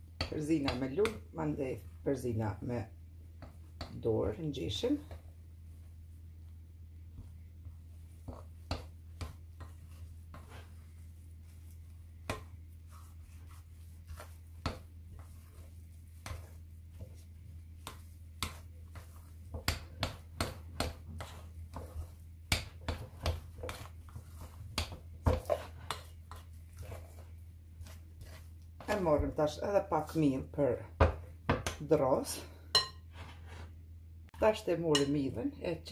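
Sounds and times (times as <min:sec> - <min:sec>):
hand kneading sticky dough: 0:00.0 - 0:32.4.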